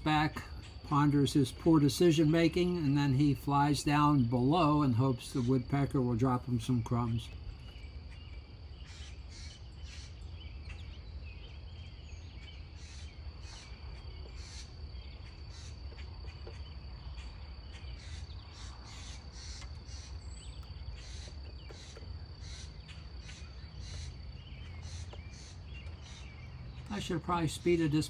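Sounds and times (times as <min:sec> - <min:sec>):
insect chirps: 0:00.0 - 0:28.0.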